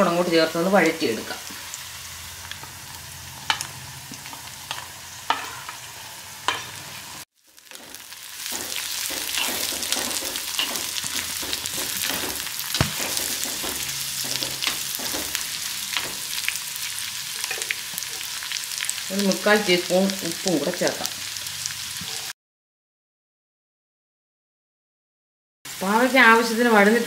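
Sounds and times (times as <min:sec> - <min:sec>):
vegetables sizzling in oil: 0:00.0 - 0:22.3, 0:25.7 - 0:27.0.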